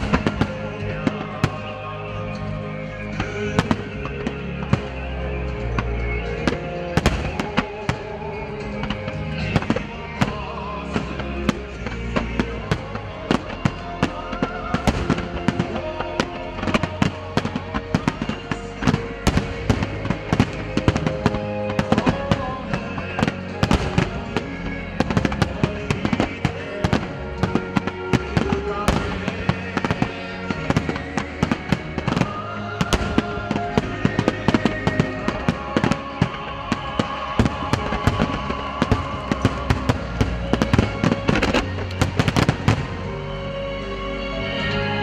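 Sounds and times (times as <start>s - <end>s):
fireworks cracking and banging: 0.0s - 43.5s
music with long held tones: 0.0s - 45.0s.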